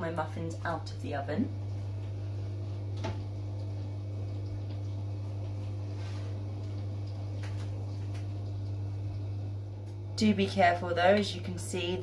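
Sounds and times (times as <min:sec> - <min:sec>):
low hum: 0:00.1 - 0:12.0.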